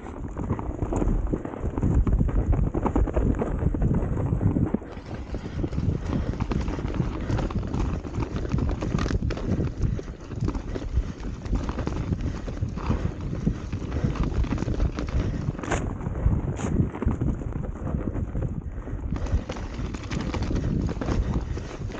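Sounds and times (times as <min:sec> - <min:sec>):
mountain bike rattling over trail: 0:00.0 - 0:21.9.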